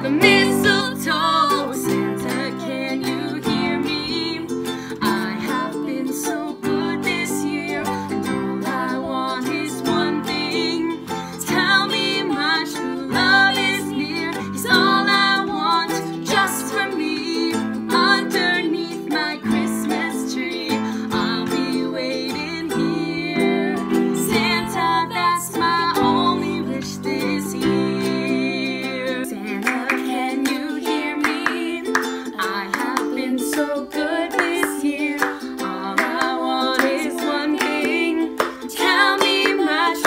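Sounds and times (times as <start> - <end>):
two women singing: 0.0 - 40.0
ukulele strumming: 0.0 - 40.0.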